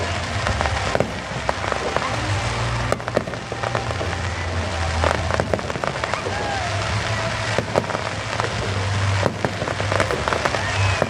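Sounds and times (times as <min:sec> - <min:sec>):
fireworks crackling: 0:00.0 - 0:11.0
sharp firework report: 0:00.0 - 0:11.0.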